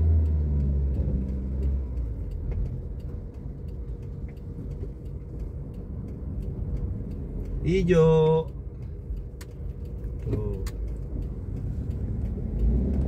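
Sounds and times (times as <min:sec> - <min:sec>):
car engine drone: 0:00.0 - 0:13.0
faint ticks: 0:00.0 - 0:13.0
road rumble inside car: 0:00.0 - 0:13.0.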